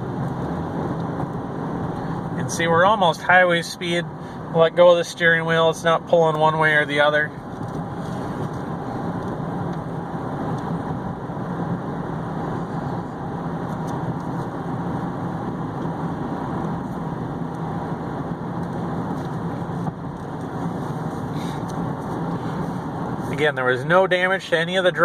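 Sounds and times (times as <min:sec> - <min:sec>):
low engine drone: 0:00.0 - 0:25.0
road and tyre noise: 0:00.0 - 0:25.0.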